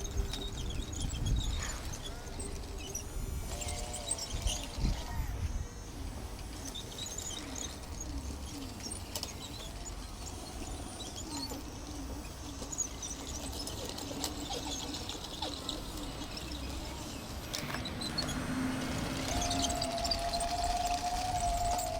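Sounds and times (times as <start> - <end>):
birds chirping: 0.0 - 21.9
toy bulldozer motor whirring: 0.0 - 21.9.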